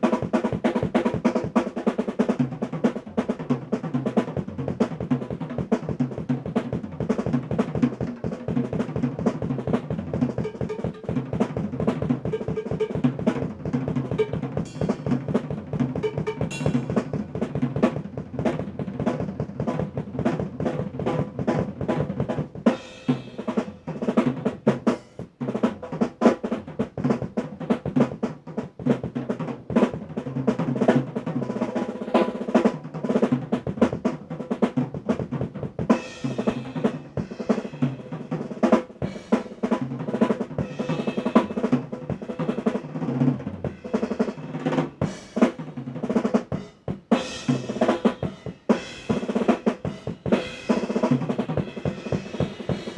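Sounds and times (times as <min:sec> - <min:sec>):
drum kit solo: 0:00.0 - 0:52.9.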